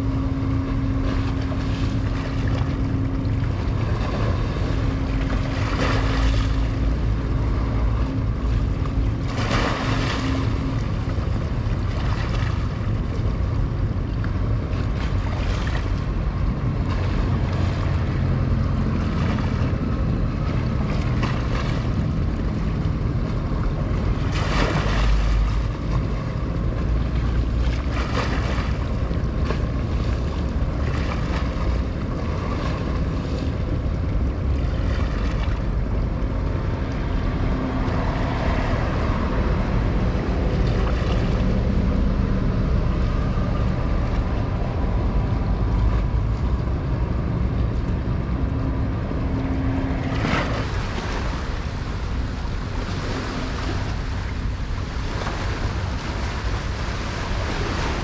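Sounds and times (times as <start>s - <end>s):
low hum of ship engines: 0.0s - 58.0s.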